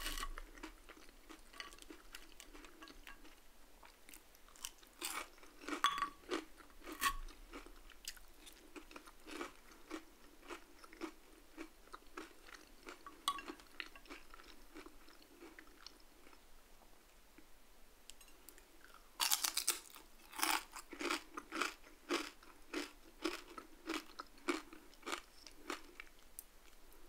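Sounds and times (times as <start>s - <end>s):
crunching and chewing fries: 0.0s - 16.4s, 18.8s - 26.9s.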